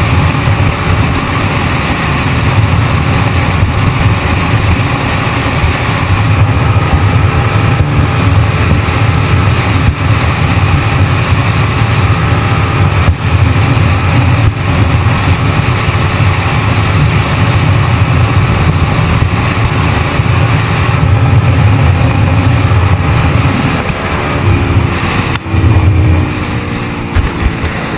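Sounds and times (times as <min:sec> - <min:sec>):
engine rumble: 0:00.0 - 0:27.9.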